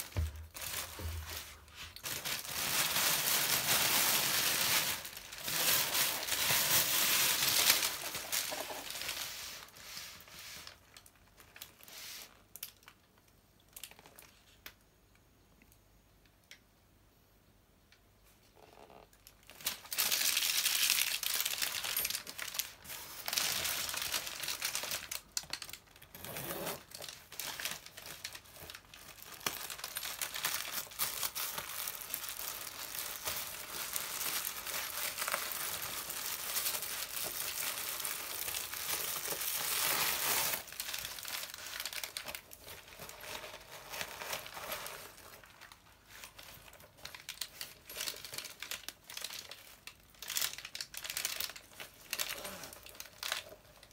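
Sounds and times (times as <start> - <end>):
paper and plastic packing crinkling: 0.0 - 14.8, 18.9 - 53.9.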